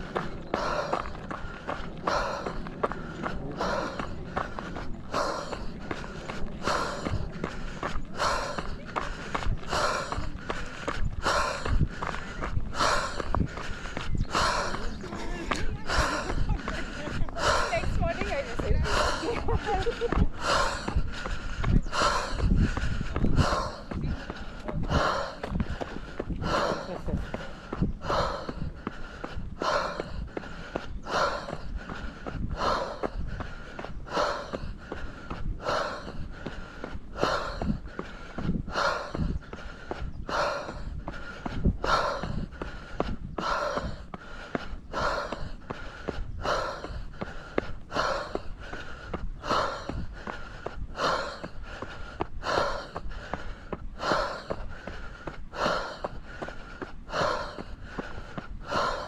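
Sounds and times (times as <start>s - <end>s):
runner breathing hard: 0.0s - 59.0s.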